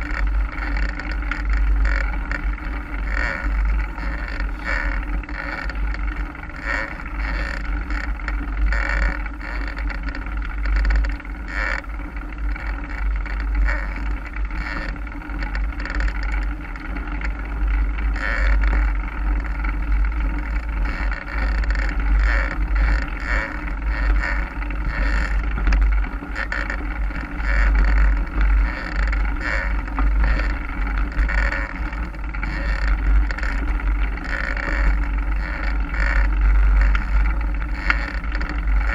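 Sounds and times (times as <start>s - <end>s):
bike rattle and tyre noise: 0.0s - 38.9s.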